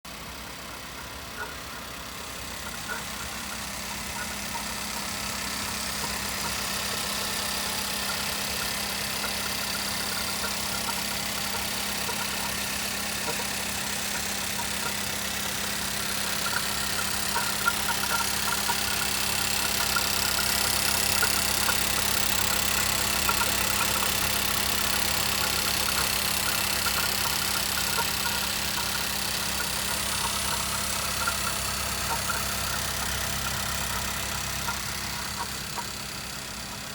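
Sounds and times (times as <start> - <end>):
car engine idling: 0.1 - 36.9.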